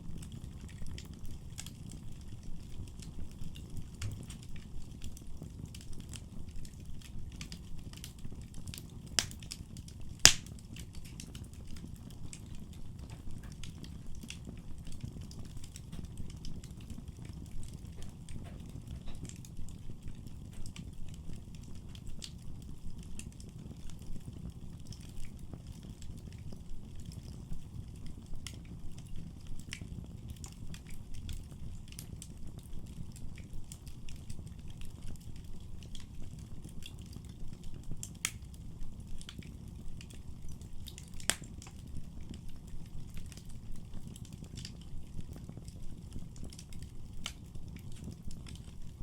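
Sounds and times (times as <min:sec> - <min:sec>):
fire crackles and pops: 0:00.0 - 0:49.0
fire flames rumbling: 0:00.0 - 0:49.0.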